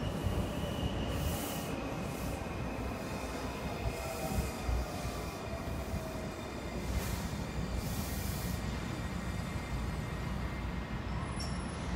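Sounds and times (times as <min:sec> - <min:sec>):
train wheels rumbling on rail: 0:00.0 - 0:11.9.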